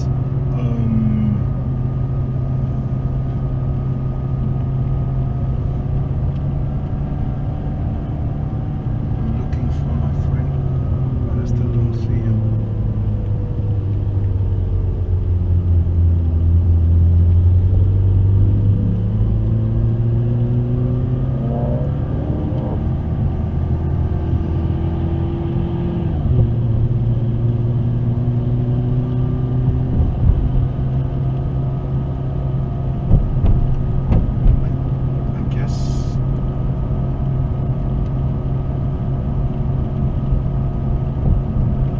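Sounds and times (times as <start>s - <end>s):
car engine running at low revs: 0.0s - 41.9s.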